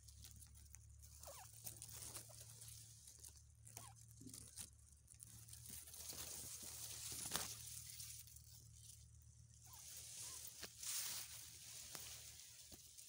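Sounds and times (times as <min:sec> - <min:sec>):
faint rustling of grass: 0:00.0 - 0:13.0.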